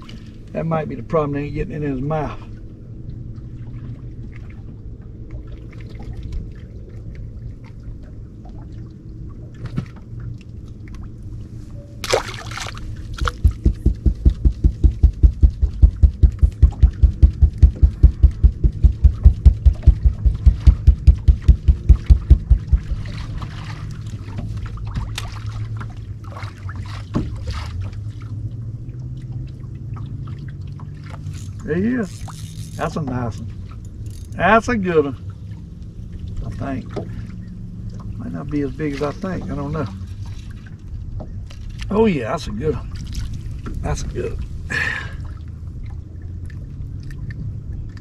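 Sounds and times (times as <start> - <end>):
water pouring and splashing: 0.0 - 0.7, 3.1 - 48.0
steady low hum: 0.0 - 48.0.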